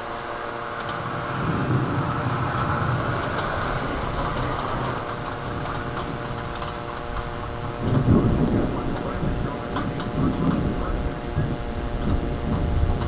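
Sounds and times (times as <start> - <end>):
heavy rain falling: 0.8 - 13.0
low rumble: 1.0 - 13.0.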